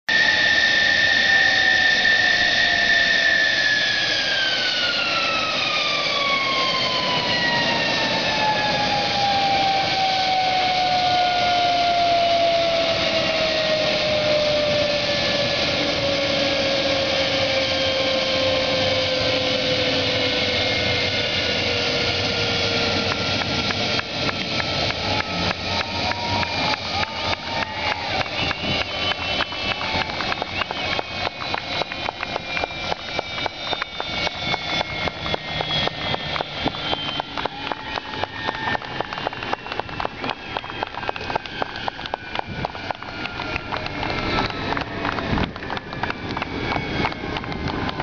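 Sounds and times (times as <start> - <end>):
jet engines spooling down: 0.1 - 48.0.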